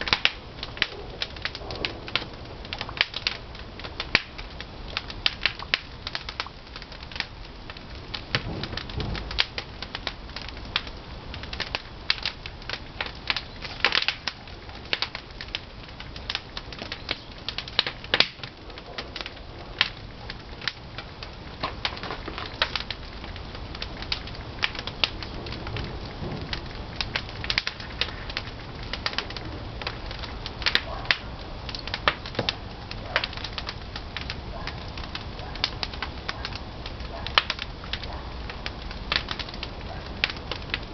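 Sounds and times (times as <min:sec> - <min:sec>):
firewood crackling and popping: 0:00.0 - 0:40.9.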